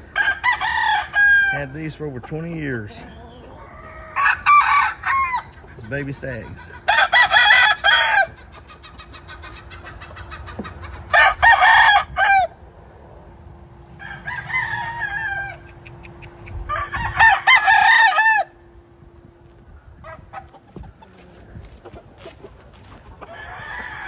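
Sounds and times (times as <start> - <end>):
roosters crowing: 0.0 - 24.0.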